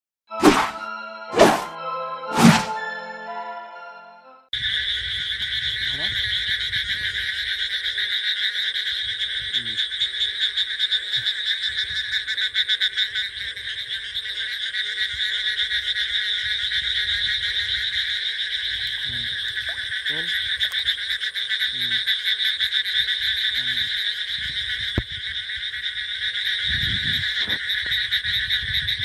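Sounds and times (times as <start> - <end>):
frogs trilling in chorus: 4.5 - 29.0.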